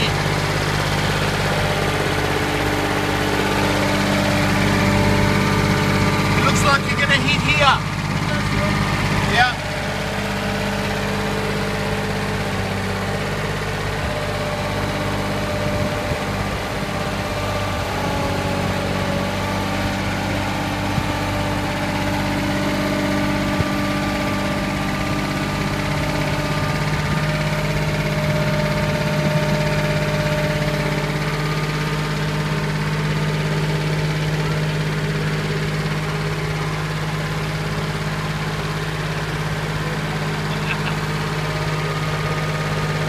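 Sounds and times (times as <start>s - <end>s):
skid steer loader engine running: 0.0s - 43.0s.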